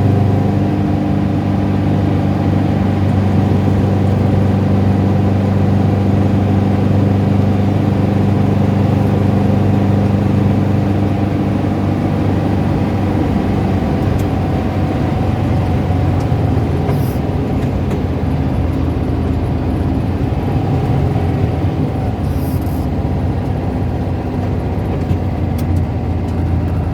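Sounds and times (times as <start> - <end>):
car engine running at low revs: 0.0 - 26.9
engine rattling and tapping: 0.0 - 26.9.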